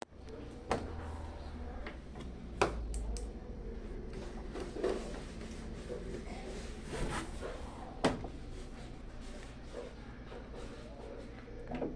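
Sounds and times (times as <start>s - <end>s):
washing machine hum: 0.0s - 11.9s.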